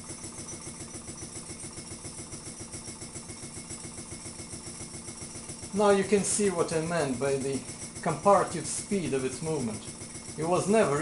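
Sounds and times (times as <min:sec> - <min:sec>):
stirling engine pumping beat: 0:00.0 - 0:11.0.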